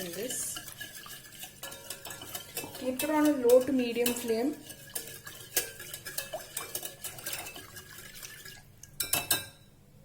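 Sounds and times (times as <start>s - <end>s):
whisk scraping against pot: 0.0s - 9.6s.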